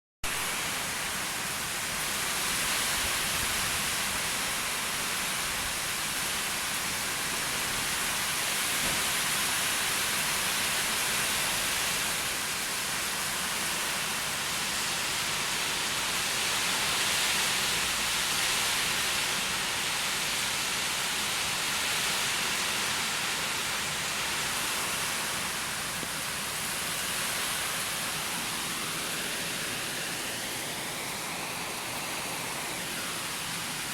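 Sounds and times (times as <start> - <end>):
heavy pouring rain: 0.2 - 33.9.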